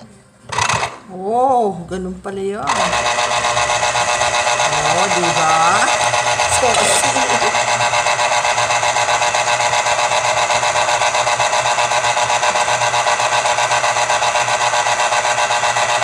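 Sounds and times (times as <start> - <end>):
electric juicer motor humming: 0.5 - 1.0, 2.6 - 16.0.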